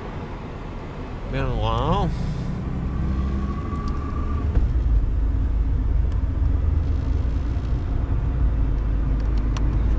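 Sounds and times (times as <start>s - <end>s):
car engine and road noise: 0.0s - 9.9s.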